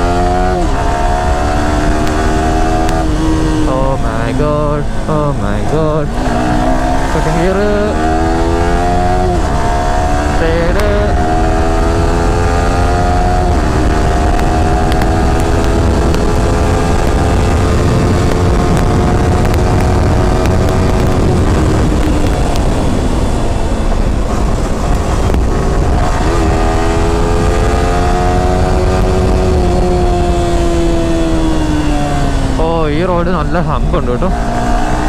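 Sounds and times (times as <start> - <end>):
motorcycle engine accelerating: 0.0 - 35.0
wind rumble on microphone: 0.0 - 35.0.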